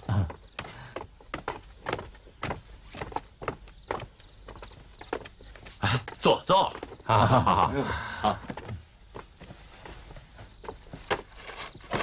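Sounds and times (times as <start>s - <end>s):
light irregular knocks: 0.0s - 7.4s, 8.3s - 12.0s
shuffling footsteps: 0.0s - 12.0s.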